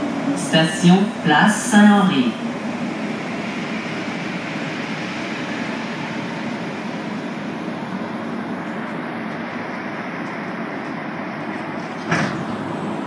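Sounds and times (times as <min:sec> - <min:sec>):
train car hiss and hum: 0:00.0 - 0:13.0.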